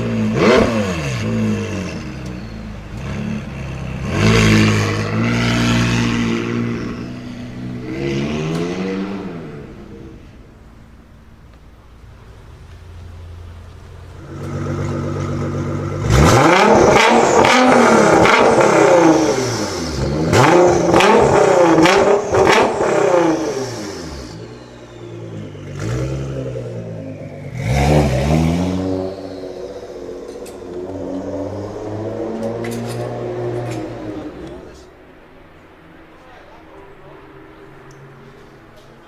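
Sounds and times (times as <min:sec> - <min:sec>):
car engine revving: 0:00.0 - 0:11.2, 0:12.2 - 0:35.0.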